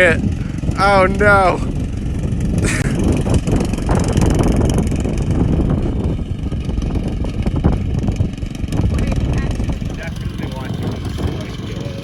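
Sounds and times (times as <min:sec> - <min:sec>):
lawnmower engine running ragged: 0:00.1 - 0:12.0.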